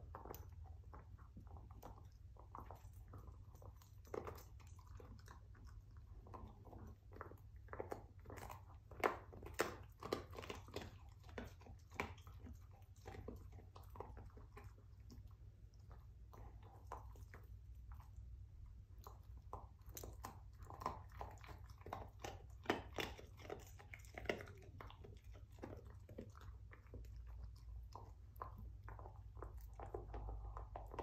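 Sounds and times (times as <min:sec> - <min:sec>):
dog chewing a bone: 0:00.0 - 0:31.0.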